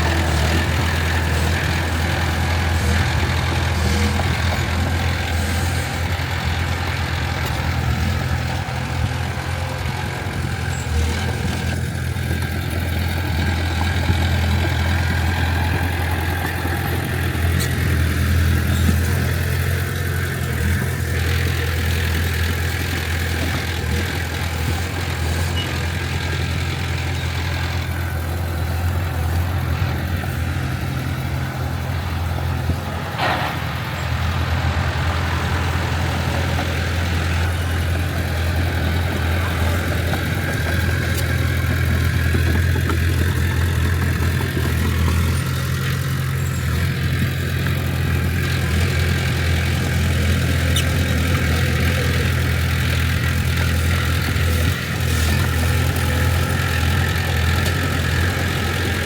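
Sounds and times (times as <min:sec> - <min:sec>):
heavy diesel engine humming: 0:00.0 - 0:59.0.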